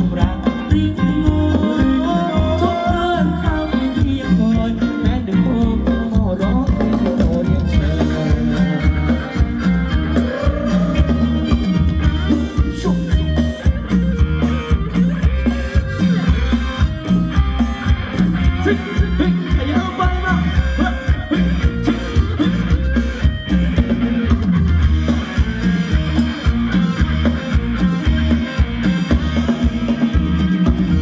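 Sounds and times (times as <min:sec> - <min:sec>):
guitar: 0:00.0 - 0:31.0
heavy drum beat: 0:00.0 - 0:31.0
live band playing dance music: 0:00.0 - 0:31.0.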